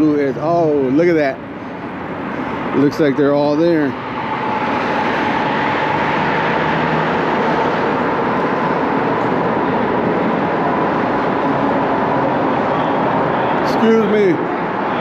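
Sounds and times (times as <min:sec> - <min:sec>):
faint steady whine: 0:00.0 - 0:15.0
road noise: 0:00.0 - 0:15.0
rushing wind: 0:00.0 - 0:15.0.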